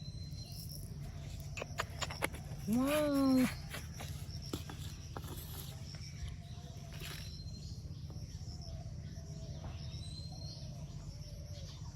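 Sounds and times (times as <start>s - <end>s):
crickets chirping: 0.0s - 11.9s.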